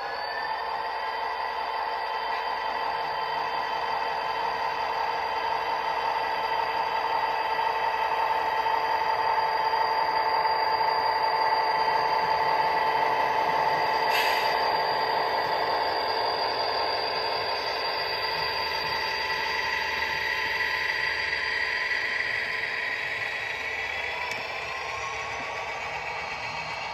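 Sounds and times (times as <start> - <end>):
model locomotive mechanical whine: 0.0 - 26.9.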